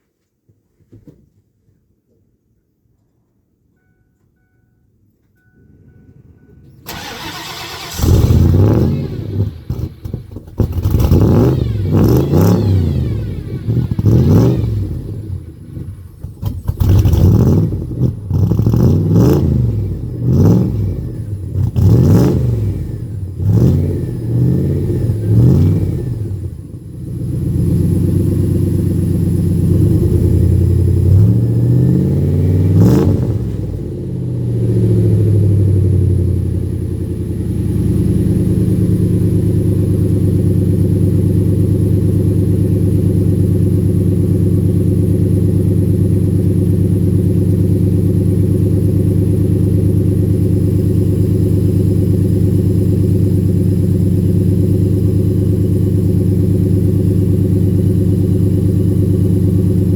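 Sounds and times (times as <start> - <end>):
car engine revving and idling: 6.9 - 59.9.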